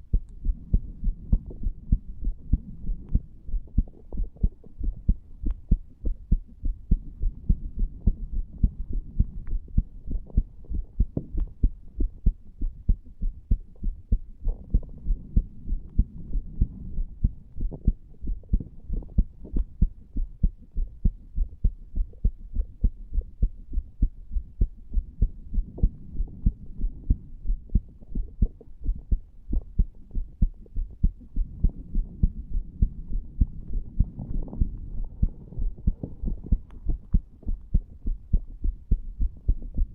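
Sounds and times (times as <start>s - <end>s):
heartbeat thuds: 0.0s - 39.9s
low hum: 0.0s - 39.9s.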